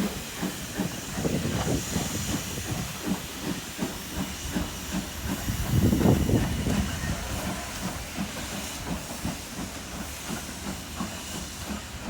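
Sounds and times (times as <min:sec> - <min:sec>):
steam locomotive hissing: 0:00.0 - 0:12.0
train rumbling: 0:00.0 - 0:12.0.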